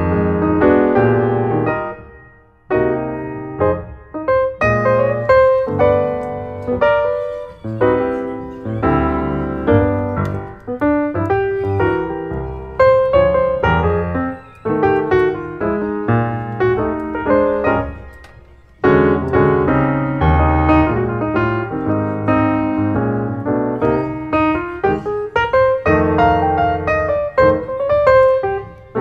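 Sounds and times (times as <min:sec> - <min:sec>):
lively piano tune: 0:00.0 - 0:29.0.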